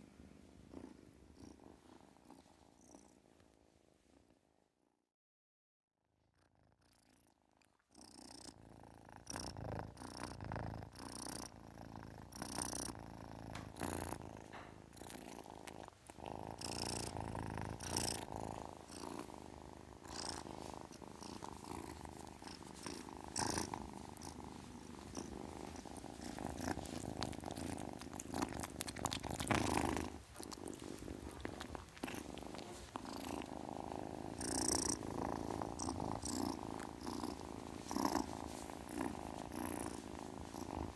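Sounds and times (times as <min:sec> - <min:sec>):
kitten purring: 0:00.0 - 0:04.7, 0:06.2 - 0:40.9.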